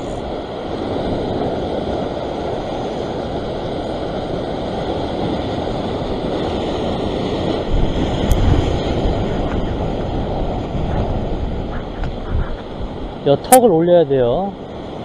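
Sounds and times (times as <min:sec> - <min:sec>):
surf breaking on rocks: 0:00.0 - 0:15.0.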